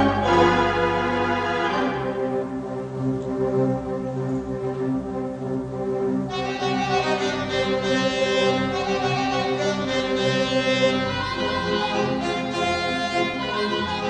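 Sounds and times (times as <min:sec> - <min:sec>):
orchestral string music: 0:00.0 - 0:14.0.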